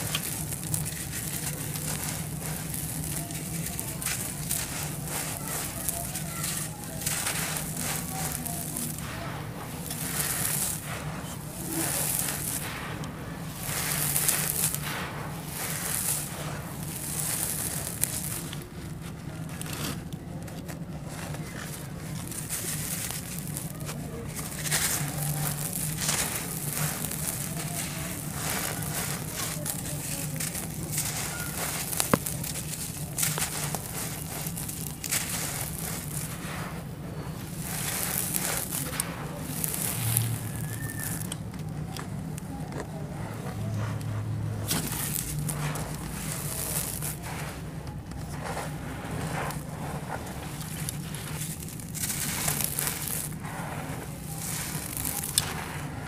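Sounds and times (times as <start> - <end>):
lumps crackling as they break: 0.0 - 56.0
sand pouring through hands: 0.0 - 56.0.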